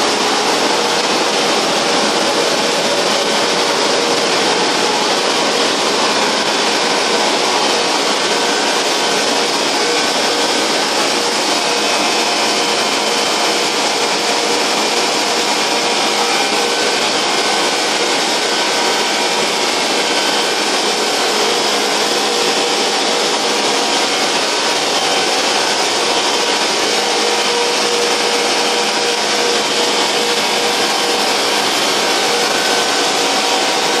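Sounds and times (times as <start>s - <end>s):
wood chipper running: 0.0s - 34.0s.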